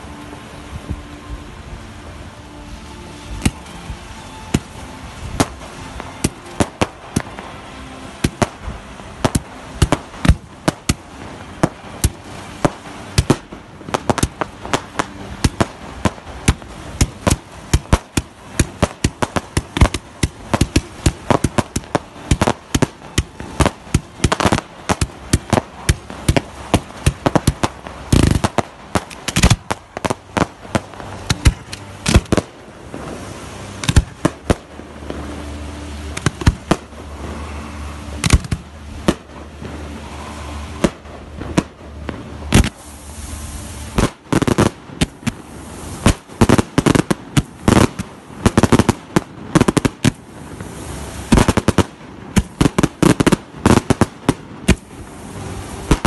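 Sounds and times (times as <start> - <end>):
fireworks bangs: 8.2 - 35.4, 36.0 - 42.9, 43.7 - 56.0.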